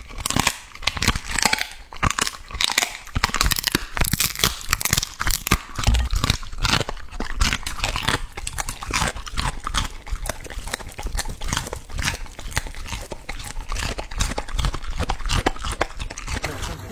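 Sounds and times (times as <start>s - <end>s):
dog crunching asparagus: 0.0s - 16.9s.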